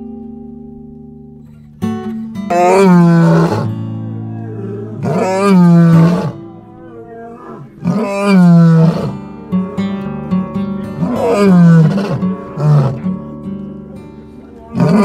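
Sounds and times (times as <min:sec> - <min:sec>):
guitar music: 0:00.0 - 0:15.0
lion roaring: 0:02.5 - 0:15.0.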